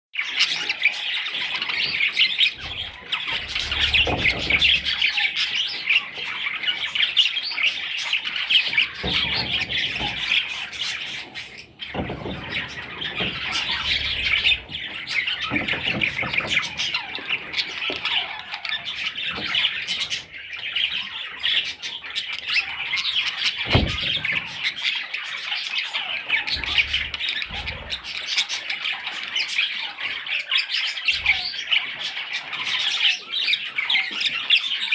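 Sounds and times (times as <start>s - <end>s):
budgerigar chicks chirping: 0.2s - 34.9s.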